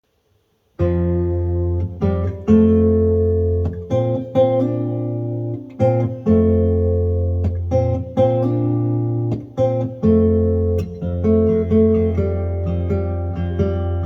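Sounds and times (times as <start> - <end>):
acoustic guitar strumming chords: 0.8 - 14.0.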